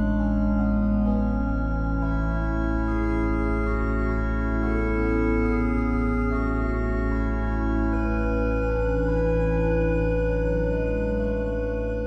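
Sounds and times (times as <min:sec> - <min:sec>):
organ playing slow chords: 0:00.0 - 0:12.0.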